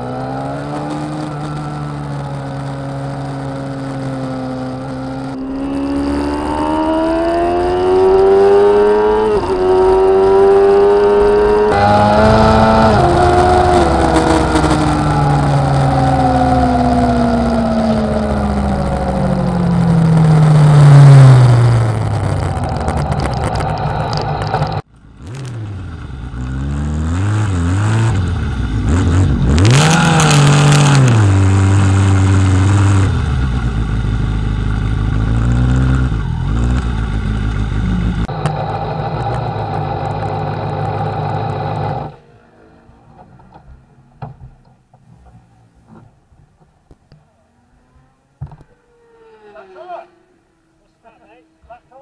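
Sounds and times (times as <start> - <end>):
motorcycle engine: 0.0 - 52.0.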